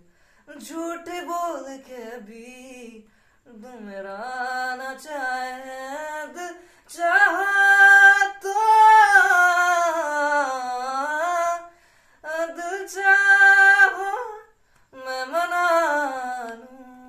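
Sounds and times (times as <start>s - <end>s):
man singing a cappella: 0.0s - 17.0s.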